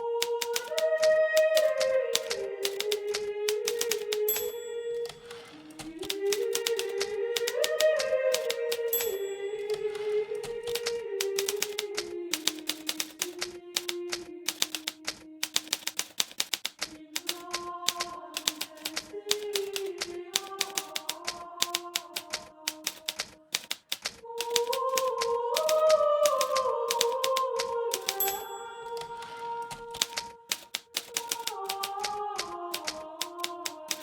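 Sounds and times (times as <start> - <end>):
manual typewriter typing: 0.0 - 34.0.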